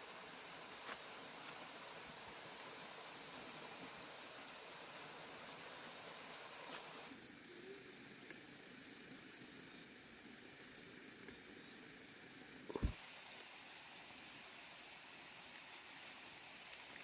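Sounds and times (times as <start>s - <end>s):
high insect hum: 0.0s - 17.0s
very high insect trill: 0.0s - 17.0s.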